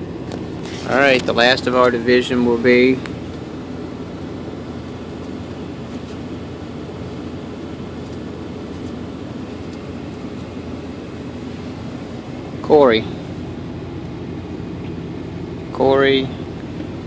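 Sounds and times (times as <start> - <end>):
vehicle cabin hum: 0.0 - 17.0.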